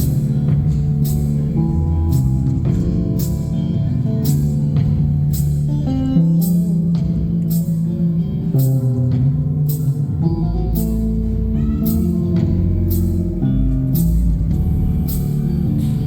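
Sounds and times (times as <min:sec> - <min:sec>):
bass guitar: 0:00.0 - 0:16.0
drums and cymbal hits: 0:00.0 - 0:16.0
electric guitar: 0:00.0 - 0:16.0.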